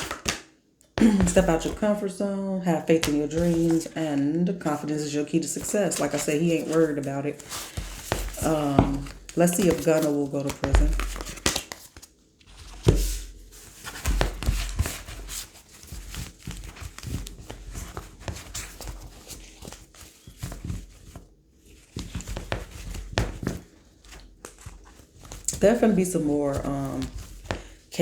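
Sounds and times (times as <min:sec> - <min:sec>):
cards being shuffled: 0:00.0 - 0:01.8, 0:02.9 - 0:28.0.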